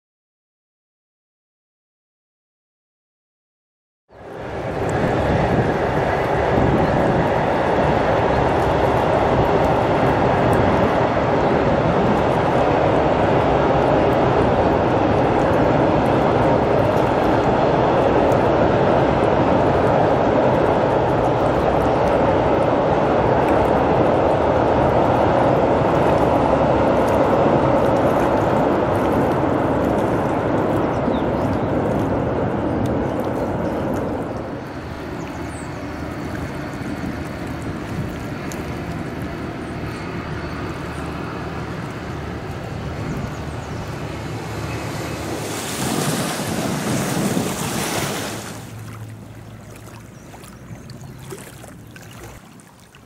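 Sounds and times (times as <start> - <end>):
water noise: 4.1 - 53.0
wind: 4.1 - 53.0
train rumbling across bridge: 4.2 - 49.7.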